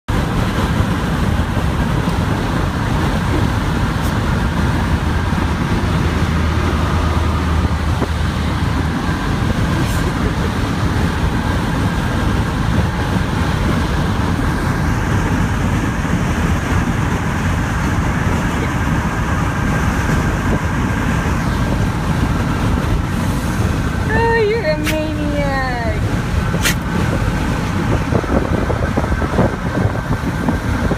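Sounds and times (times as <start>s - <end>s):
road noise: 0.0s - 30.9s
wind rushing through car window: 0.1s - 30.9s.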